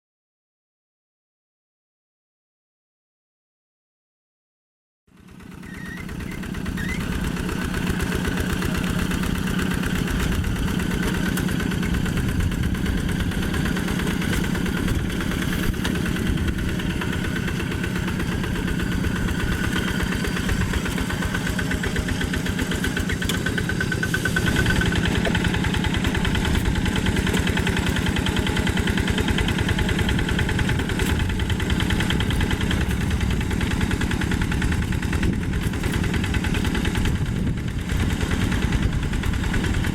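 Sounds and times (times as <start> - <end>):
diesel walking tractor engine chugging: 5.1 - 39.9.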